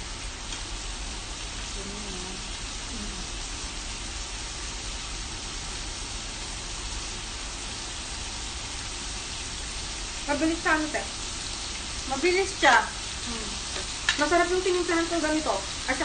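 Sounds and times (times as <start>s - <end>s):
meat sizzling on a grill plate: 0.0s - 16.0s.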